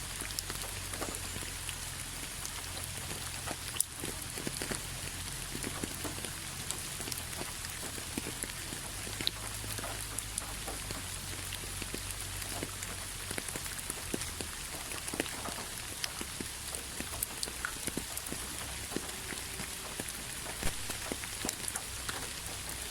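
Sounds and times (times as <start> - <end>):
raindrops striking close by: 0.0 - 22.9
steady rainfall: 0.0 - 22.9.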